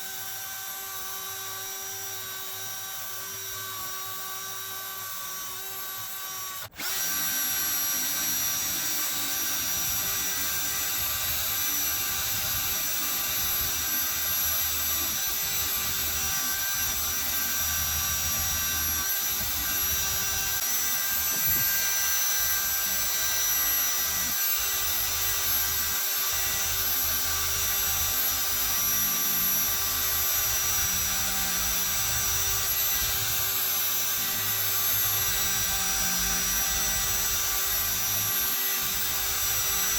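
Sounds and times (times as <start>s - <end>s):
power tool whining on metal: 0.0s - 39.9s.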